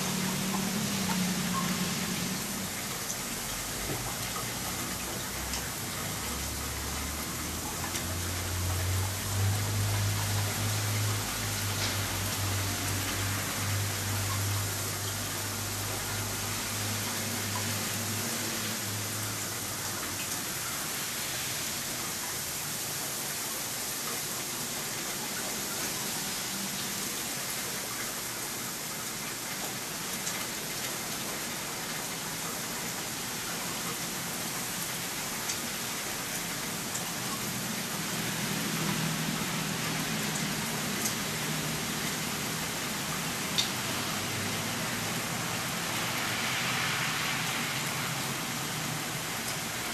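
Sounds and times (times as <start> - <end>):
rain falling on pavement: 0.0 - 49.9.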